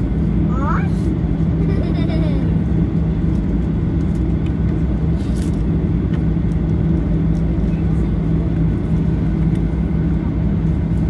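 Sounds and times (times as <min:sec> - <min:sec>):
jet engines drone in cabin: 0:00.0 - 0:11.0
low steady hum: 0:00.0 - 0:11.0.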